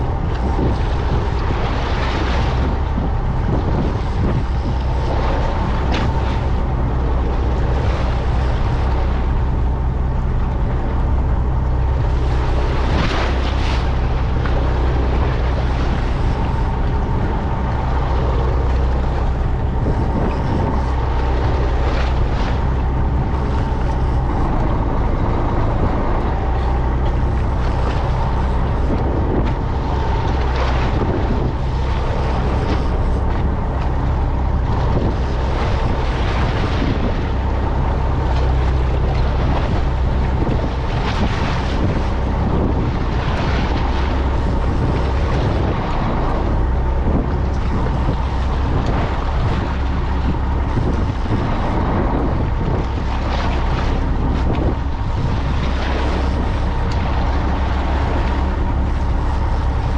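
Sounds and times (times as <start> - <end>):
boat engine running: 0.0 - 59.9
hull rushing through water: 0.0 - 59.9
wind buffeting microphone: 0.0 - 59.9.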